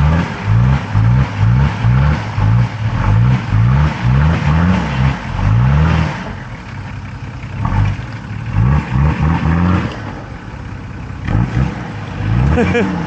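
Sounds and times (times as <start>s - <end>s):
engine revving in blips: 0.0s - 6.6s, 7.6s - 10.4s, 11.2s - 13.0s.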